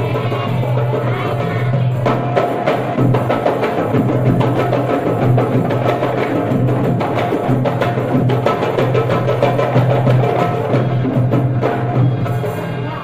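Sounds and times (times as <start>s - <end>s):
hand drums in fast rhythm: 0.0s - 13.0s.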